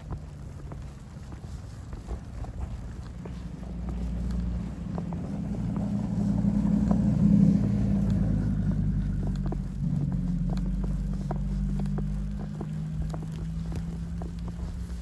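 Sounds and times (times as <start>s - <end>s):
footsteps crunching in snow: 0.0s - 15.0s
vehicle engine passing slowly: 0.0s - 15.0s.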